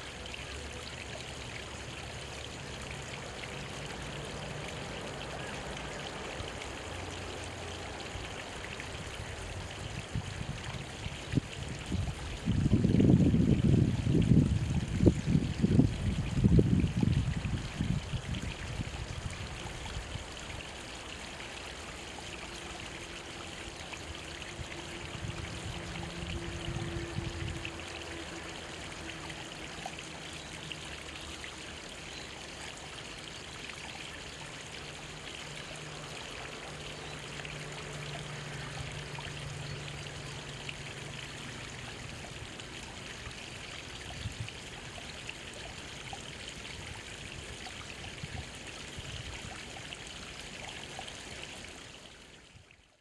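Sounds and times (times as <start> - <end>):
stream trickling over rocks: 0.0 - 53.0.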